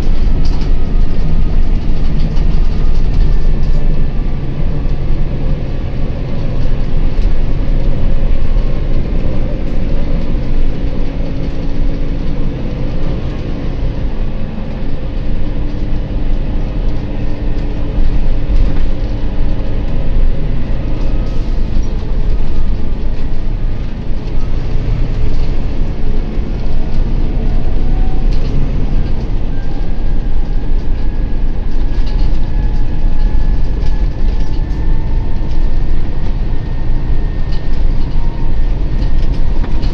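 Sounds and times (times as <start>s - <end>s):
bus diesel engine running: 0.0s - 39.9s
knocks and rattles from bumpy road: 0.0s - 39.9s
road noise: 0.0s - 39.9s.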